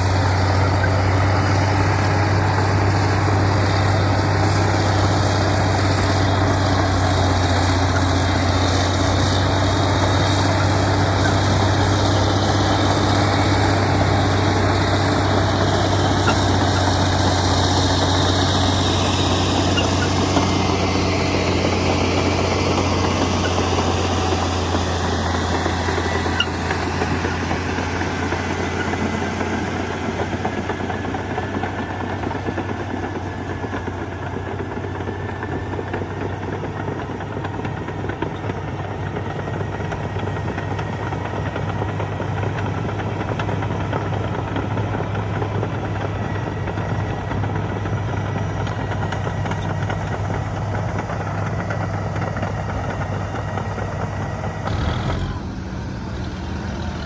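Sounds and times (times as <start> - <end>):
heavy diesel machinery engine hum: 0.0 - 57.0.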